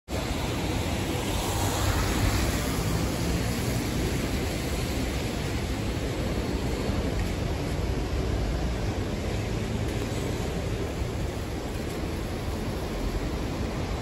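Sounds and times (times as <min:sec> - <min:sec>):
traffic rumble and hiss: 0:00.1 - 0:14.0.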